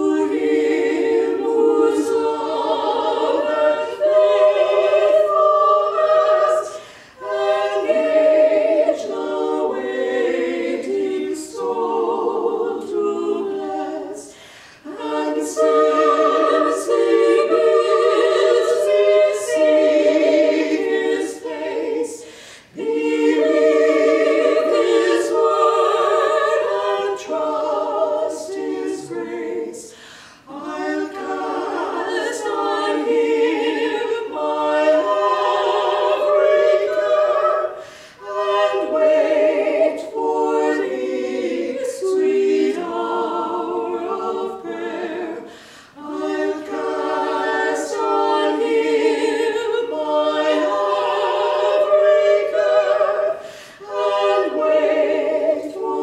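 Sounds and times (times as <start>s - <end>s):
women singing a cappella in harmony: 0.0s - 56.0s.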